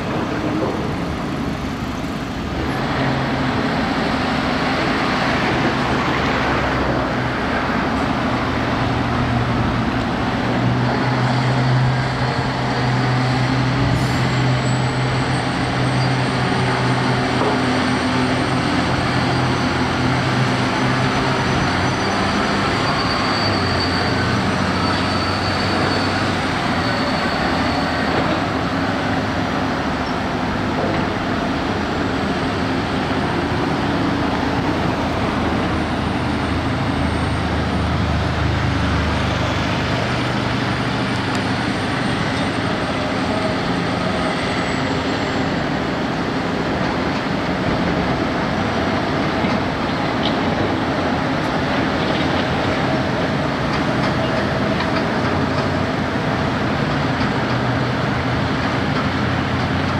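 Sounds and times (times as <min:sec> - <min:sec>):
heavy diesel engines droning: 0:00.0 - 0:59.9.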